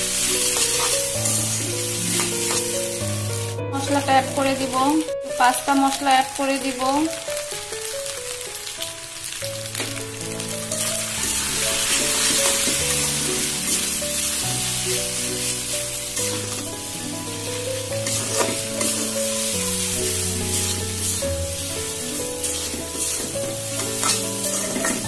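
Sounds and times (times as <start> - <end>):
background music with held notes: 0.0 - 25.0
pasta sizzling in a wok: 0.0 - 25.0.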